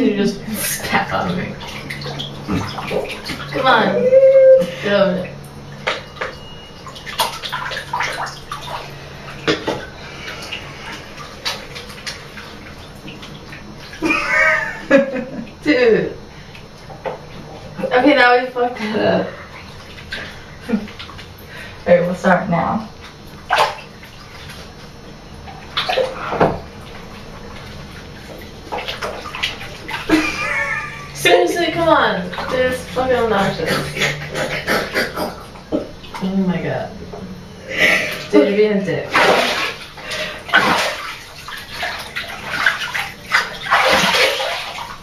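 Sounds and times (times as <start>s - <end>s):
bath water splashing: 0.0s - 45.0s.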